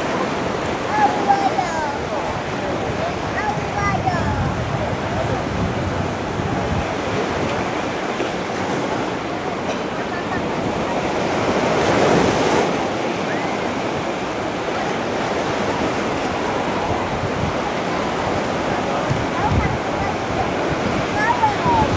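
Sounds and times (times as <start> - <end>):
wind on microphone: 0.0 - 9.6, 10.2 - 21.9
surf washing: 0.0 - 21.9.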